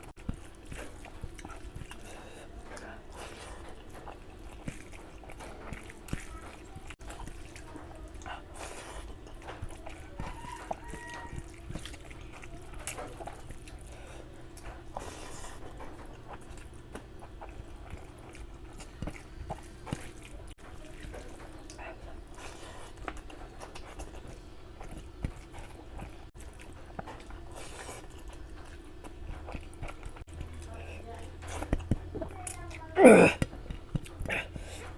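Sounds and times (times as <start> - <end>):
person chewing food: 0.0 - 34.9.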